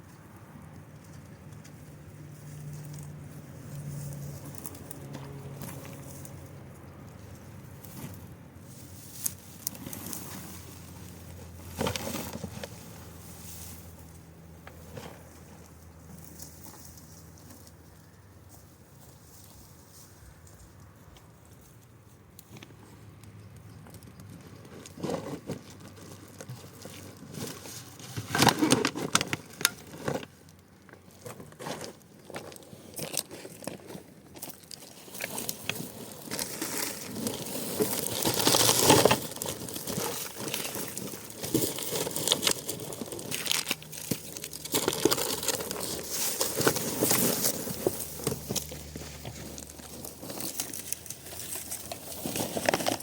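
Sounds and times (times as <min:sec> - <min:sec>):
crinkling and crackling: 0:00.0 - 0:53.0.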